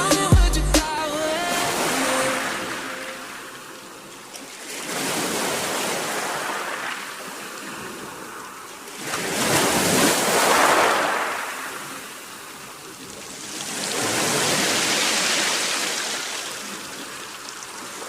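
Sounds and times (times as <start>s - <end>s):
waves washing on shore: 1.1s - 18.0s.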